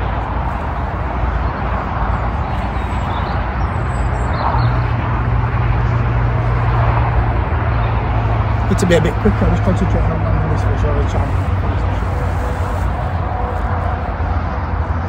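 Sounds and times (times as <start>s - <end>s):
motorway traffic rushing: 0.0s - 15.0s.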